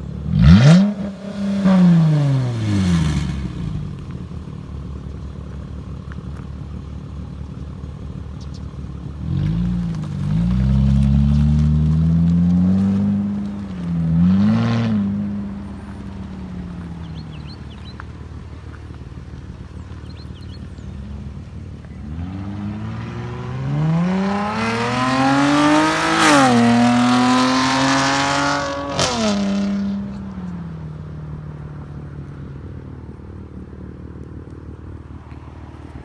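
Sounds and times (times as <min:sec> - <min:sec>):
car exhaust idling and revving: 0:00.0 - 0:36.0
exhaust cracks: 0:00.0 - 0:36.0.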